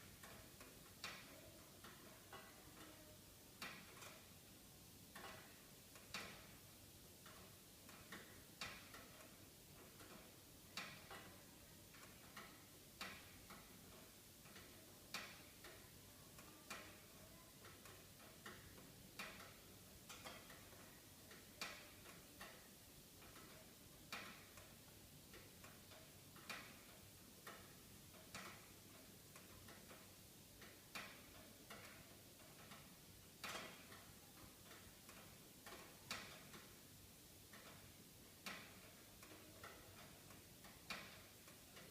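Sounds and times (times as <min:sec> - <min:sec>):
low steady hiss: 0:00.0 - 0:41.9.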